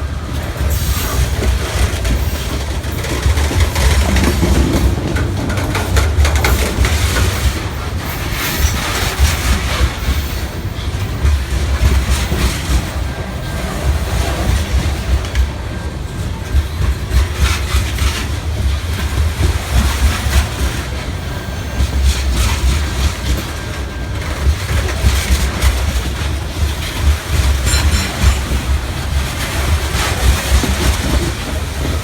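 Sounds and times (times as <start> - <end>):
freight train wheels rumbling: 0.0 - 32.0
wheels clacking over rail joints: 0.0 - 32.0.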